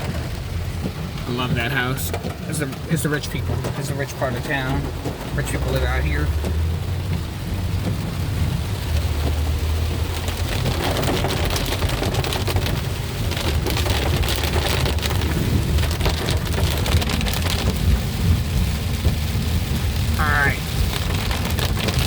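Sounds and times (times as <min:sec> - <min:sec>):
heavy rain pelting a car: 0:00.0 - 0:22.0
low road rumble: 0:00.0 - 0:22.0
tyres hissing on wet street: 0:00.0 - 0:22.0.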